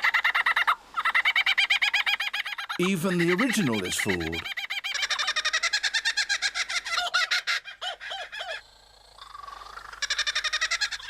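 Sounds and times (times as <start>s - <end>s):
bird laughing call: 0.0s - 8.6s, 9.2s - 11.0s.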